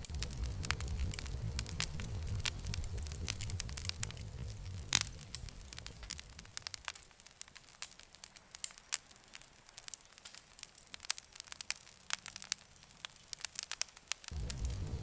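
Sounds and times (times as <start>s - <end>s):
campfire crackling: 0.0s - 15.0s
faint hiss: 0.0s - 15.0s.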